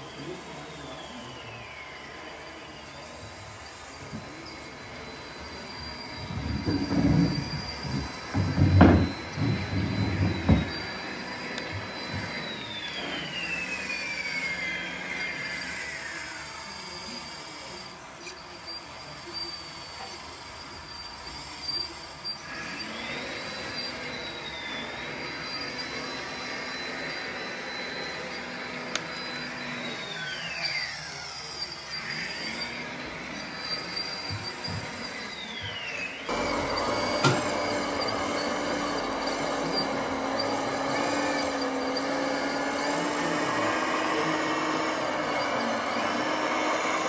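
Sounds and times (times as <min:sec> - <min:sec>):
electric model machine motors whining: 0:00.0 - 0:47.0
steady machine running: 0:00.0 - 0:47.0.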